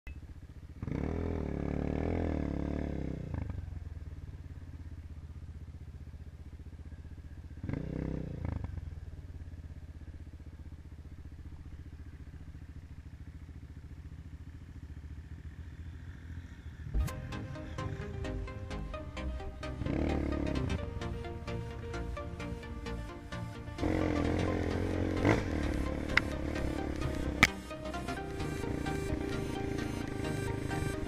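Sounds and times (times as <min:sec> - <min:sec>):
dirt bike engine idling and revving: 0:00.1 - 0:31.0.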